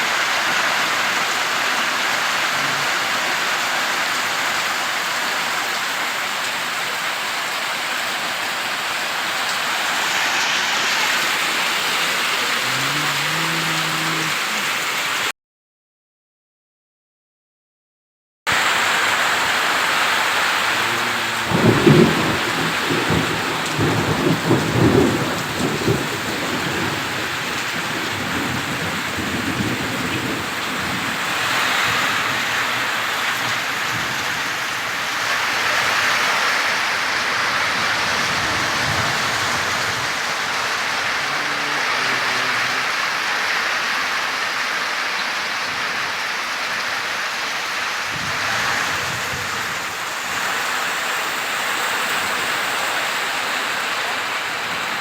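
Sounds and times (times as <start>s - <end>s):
heavy rain falling: 0.0s - 15.3s, 18.5s - 55.0s.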